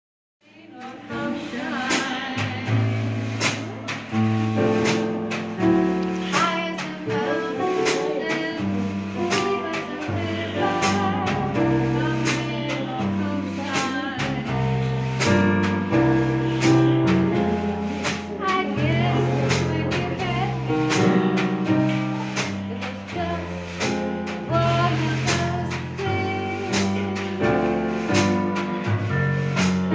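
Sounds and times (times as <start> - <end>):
woman singing: 0.4 - 4.4, 6.1 - 28.4
keyboard chords: 0.7 - 29.9
snare drum and cymbal: 0.8 - 29.9.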